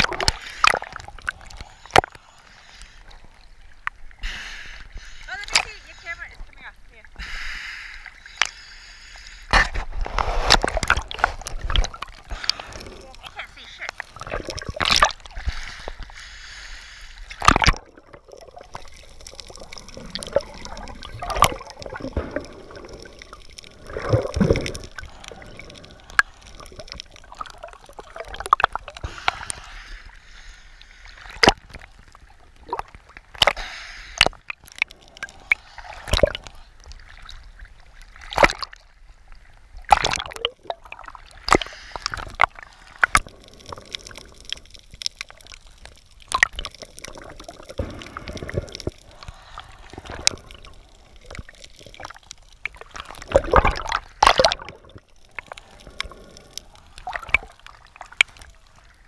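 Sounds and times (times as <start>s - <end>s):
water sloshing and gurgling: 0.0s - 59.0s.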